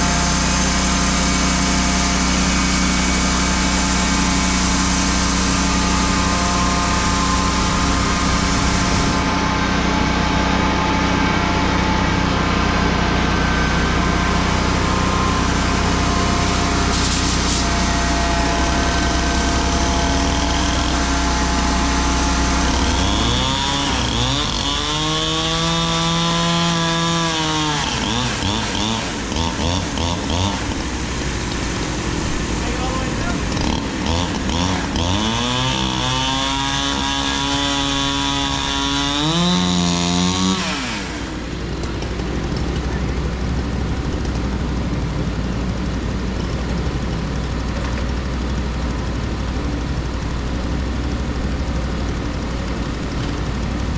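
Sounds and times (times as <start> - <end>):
chainsaw revving: 0.0 - 43.8
engine running steadily: 0.0 - 53.9.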